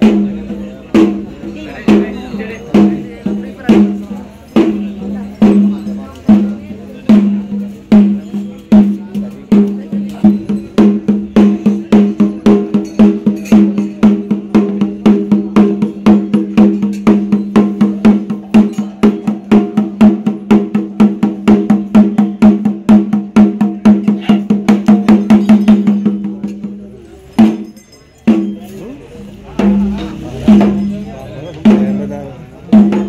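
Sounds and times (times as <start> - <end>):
drums beaten fast: 0.0 - 33.0.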